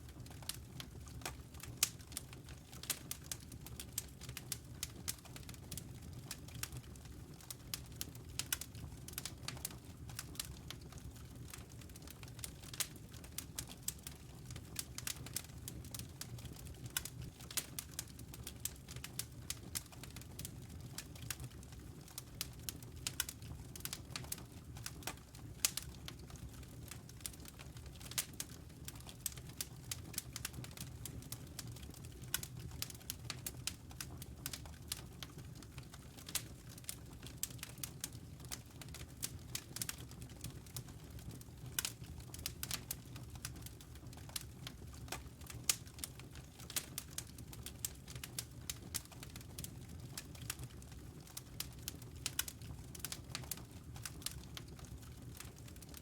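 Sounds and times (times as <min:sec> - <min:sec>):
low rumble of flames: 0:00.0 - 0:56.0
burning logs popping and snapping: 0:00.2 - 0:56.0.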